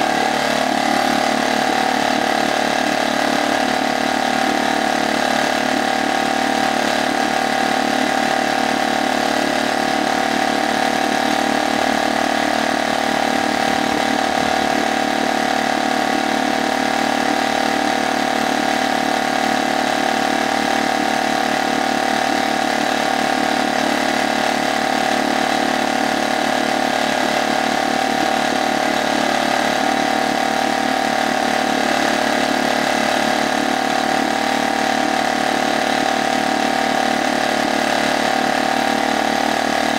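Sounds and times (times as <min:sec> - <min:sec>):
outboard motor idling: 0:00.0 - 0:39.9.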